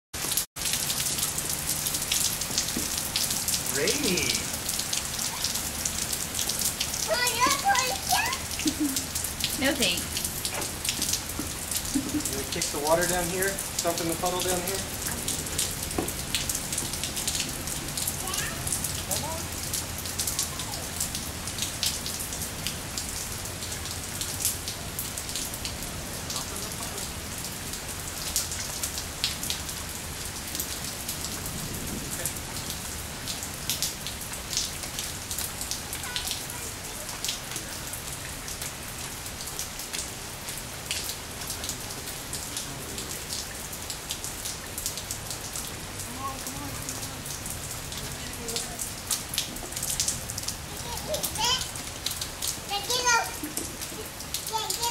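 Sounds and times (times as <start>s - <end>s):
rain on wet pavement: 0.2s - 54.9s
raindrop hits: 0.2s - 54.9s.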